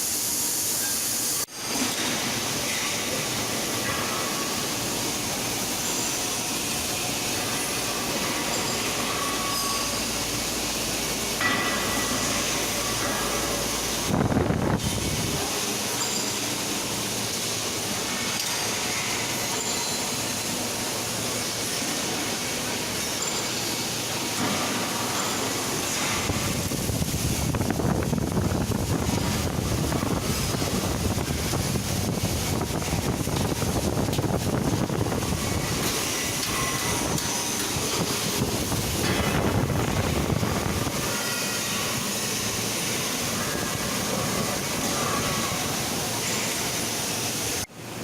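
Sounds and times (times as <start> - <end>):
industrial machinery noise: 0.0 - 48.0.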